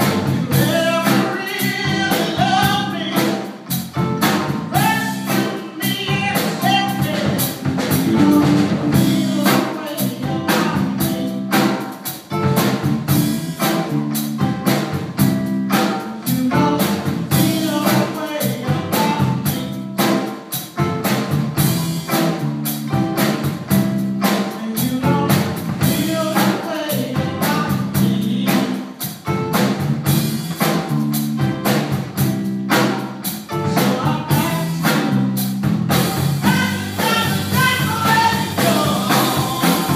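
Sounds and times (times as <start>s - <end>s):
blues band playing: 0.0s - 39.9s
drum kit steady beat: 0.0s - 39.9s.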